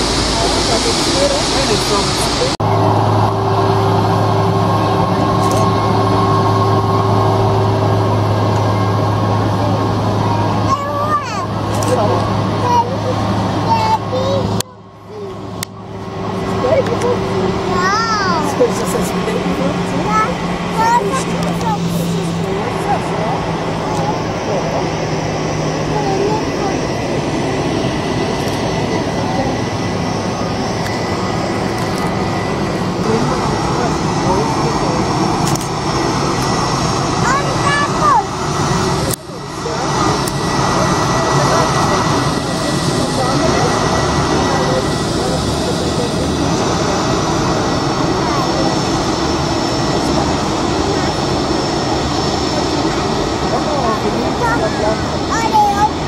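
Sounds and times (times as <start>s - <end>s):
constant rushing noise: 0.0s - 56.0s
faint high engine whine: 0.0s - 56.0s
jet engines rumbling hiss: 0.0s - 56.0s.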